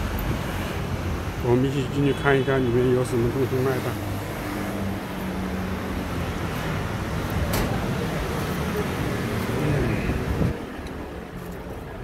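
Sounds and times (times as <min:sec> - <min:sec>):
rumble of passing traffic: 0:00.0 - 0:12.0.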